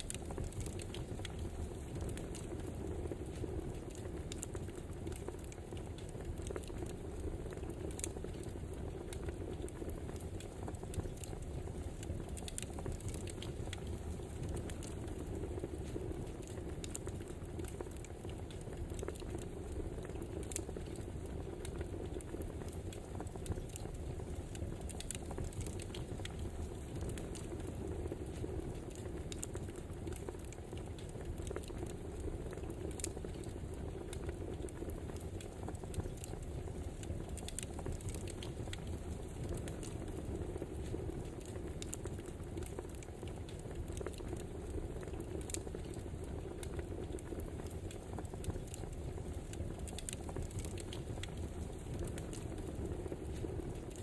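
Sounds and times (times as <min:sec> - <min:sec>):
low fire hiss: 0:00.0 - 0:54.0
wood fire crackling and popping: 0:00.0 - 0:54.0.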